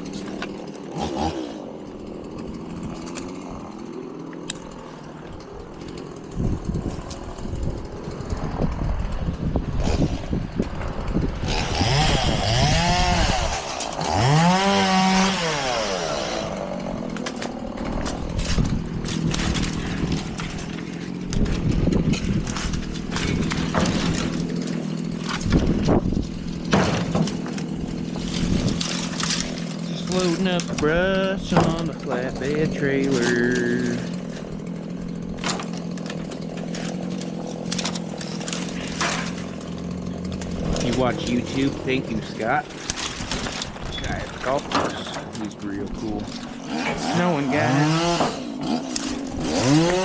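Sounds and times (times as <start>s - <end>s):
chainsaw running: 0.0s - 50.0s
wood and brush cracking: 0.0s - 50.0s.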